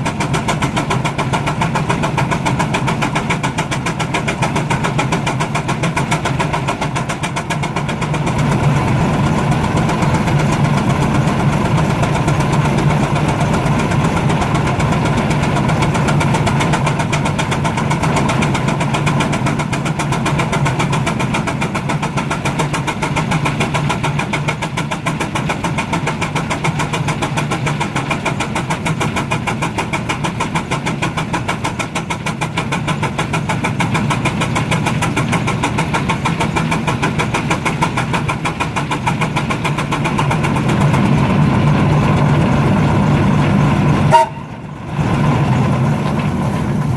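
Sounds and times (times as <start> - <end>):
steam traction engine running: 0.0 - 46.9.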